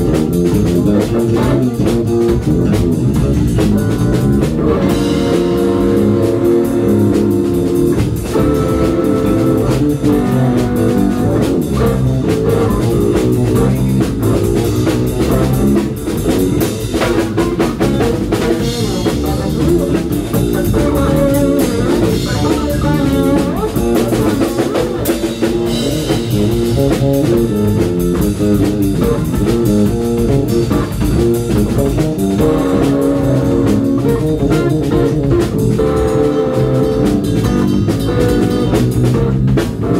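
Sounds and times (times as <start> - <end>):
funk band playing: 0.0 - 39.9.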